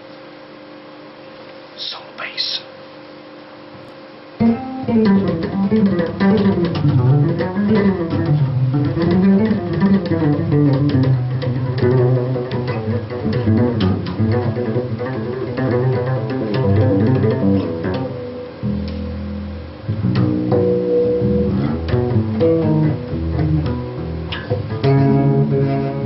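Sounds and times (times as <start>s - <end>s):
faint steady hum: 0.0s - 26.0s
bass guitar playing: 4.4s - 26.0s.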